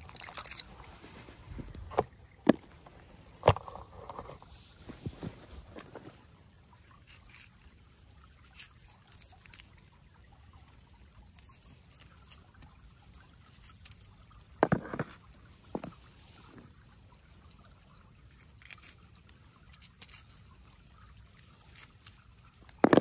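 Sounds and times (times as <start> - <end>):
creek water trickling: 0.0 - 23.0.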